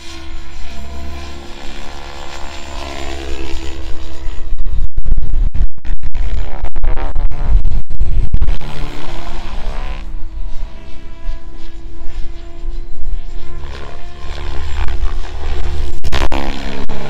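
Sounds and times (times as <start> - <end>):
rc helicopter rotor and motor: 0.0 - 17.0.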